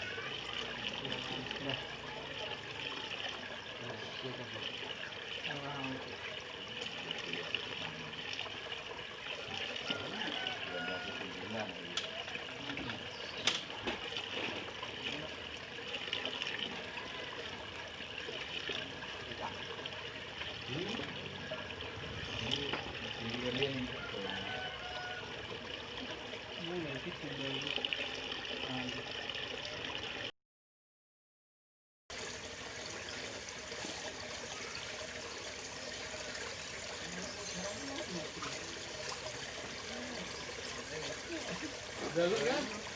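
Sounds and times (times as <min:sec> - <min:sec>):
water trickling: 0:00.0 - 0:30.3, 0:32.1 - 0:42.9.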